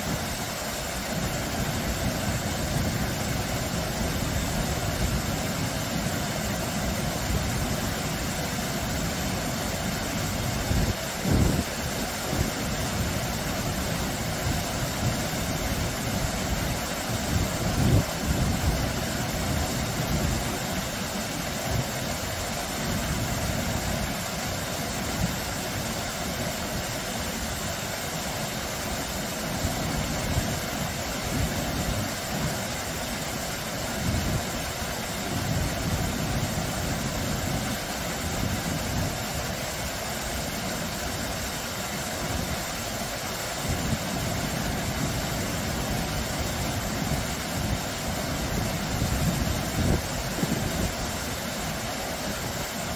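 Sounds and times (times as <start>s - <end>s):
waterfall spilling over rocks: 0.0s - 52.9s.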